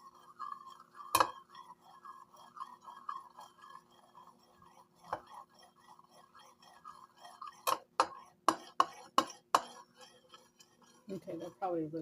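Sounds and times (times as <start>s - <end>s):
metal spoon stirring in a bowl: 0.0s - 12.0s.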